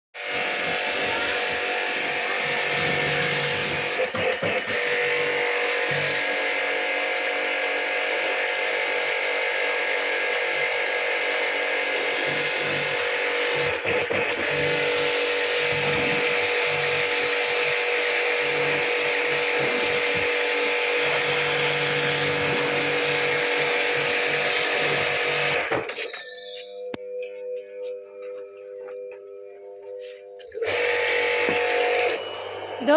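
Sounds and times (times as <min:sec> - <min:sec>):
electric machine whining: 0:00.2 - 0:32.9.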